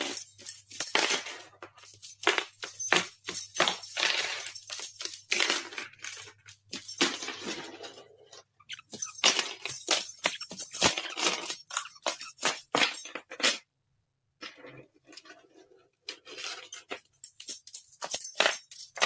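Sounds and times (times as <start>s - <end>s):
hard objects clinking and knocking: 0.0s - 13.7s, 16.1s - 19.0s.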